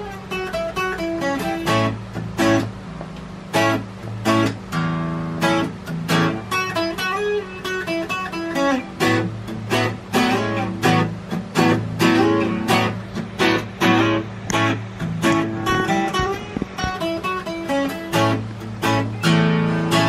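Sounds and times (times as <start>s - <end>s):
twelve-string acoustic guitar strummed: 0.0s - 20.0s.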